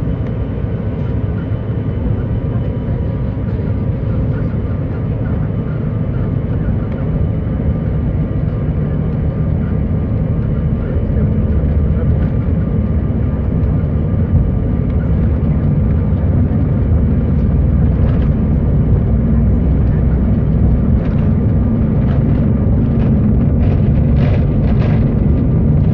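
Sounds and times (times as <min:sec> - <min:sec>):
faint jet engine whine: 0:00.0 - 0:25.9
jet engine rumble in cabin: 0:00.0 - 0:25.9.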